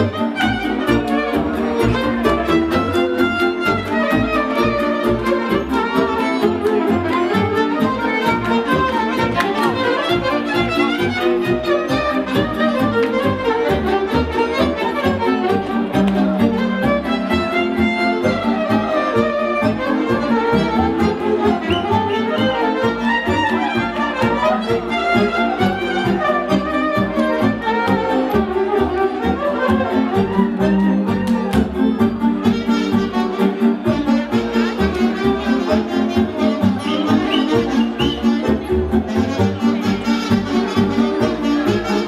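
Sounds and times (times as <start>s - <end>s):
folk dance music: 0.0s - 42.0s
keyboard accompaniment: 0.0s - 42.0s
violin melody: 0.0s - 42.0s.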